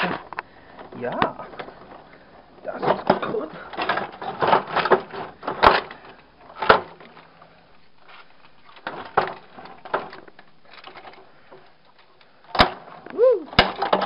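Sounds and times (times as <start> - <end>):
plastic and metal parts clattering: 0.0 - 7.4, 8.0 - 14.0.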